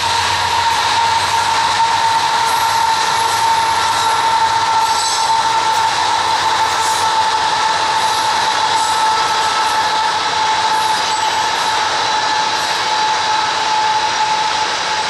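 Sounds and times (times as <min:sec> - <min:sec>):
diesel locomotives passing: 0:00.0 - 0:15.0
loud steady whine: 0:00.0 - 0:15.0.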